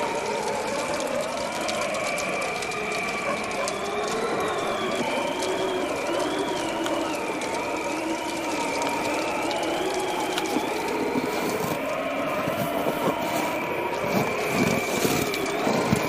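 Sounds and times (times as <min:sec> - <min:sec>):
bonfire crackling and popping: 0:00.0 - 0:16.0
high wavering drone: 0:00.0 - 0:16.0.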